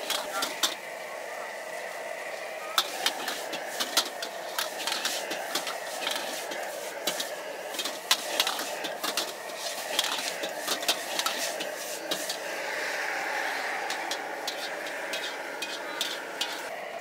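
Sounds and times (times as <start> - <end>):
metal ladle scraping wok: 0.0 - 0.9, 2.7 - 16.7
gas burner rushing: 0.0 - 17.0.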